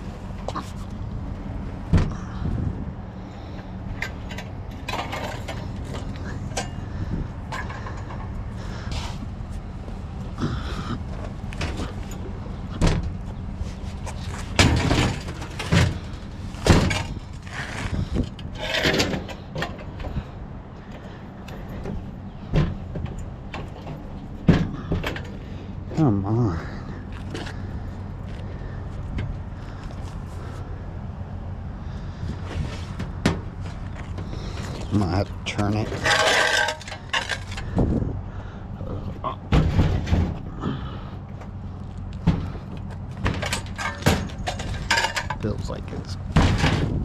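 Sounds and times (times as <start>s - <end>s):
vehicle idling hum: 0.0s - 47.0s
scrap clanking and scraping: 3.3s - 9.3s, 10.4s - 30.6s, 31.9s - 38.1s, 38.8s - 41.6s, 42.2s - 47.0s.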